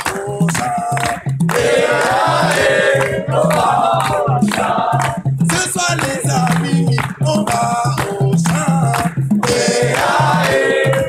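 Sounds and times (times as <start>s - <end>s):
hand drums beat: 0.0s - 11.0s
voices singing together: 0.0s - 11.0s.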